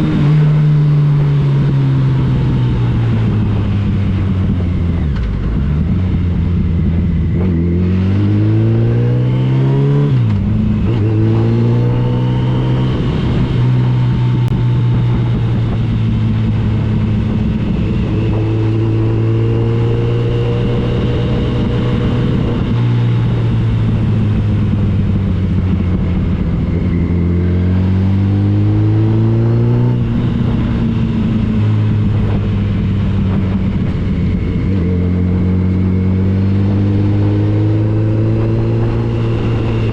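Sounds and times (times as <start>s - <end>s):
motorcycle engine shifting gears: 0.0s - 39.9s
wind noise: 0.0s - 39.9s.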